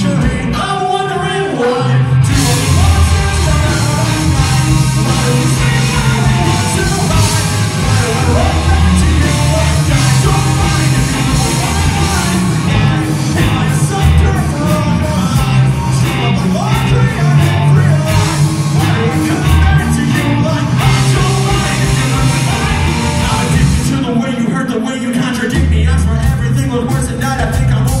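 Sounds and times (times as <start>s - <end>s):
electric guitars: 0.0s - 24.3s
bass guitar: 0.0s - 28.0s
drum kit: 0.0s - 28.0s
man singing into a microphone: 0.0s - 28.0s.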